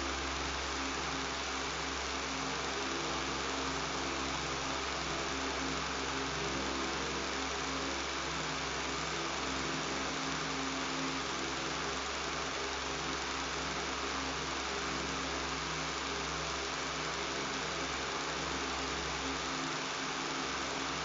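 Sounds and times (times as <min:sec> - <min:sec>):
electric fan running: 0:00.0 - 0:21.0.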